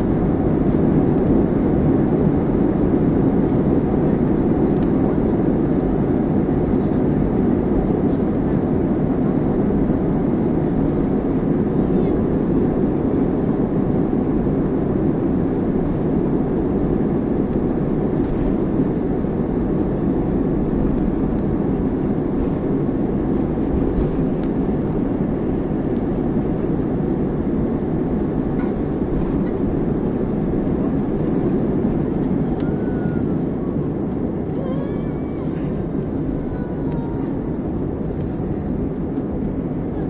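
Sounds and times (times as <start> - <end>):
jet engines roaring in cabin: 0.0 - 40.0.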